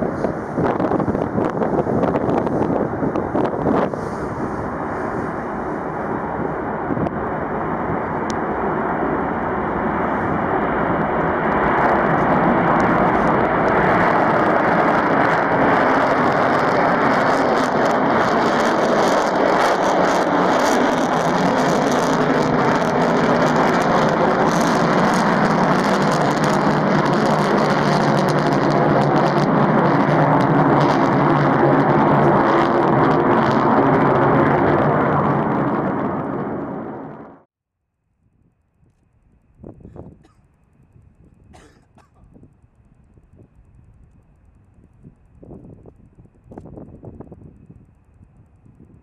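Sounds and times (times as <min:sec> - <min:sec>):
jet engine roar with crackle: 0:00.0 - 0:37.5, 0:38.4 - 0:49.0.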